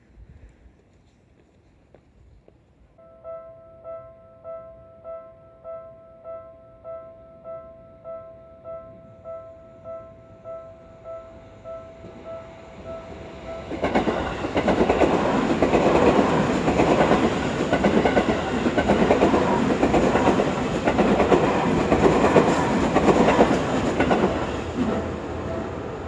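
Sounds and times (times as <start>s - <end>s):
electric train passing: 3.0s - 26.0s.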